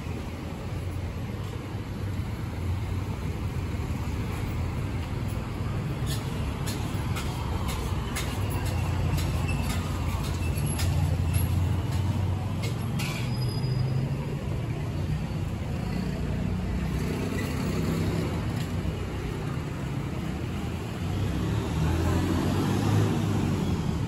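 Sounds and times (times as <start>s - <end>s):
traffic engine rumble: 0.0s - 24.0s.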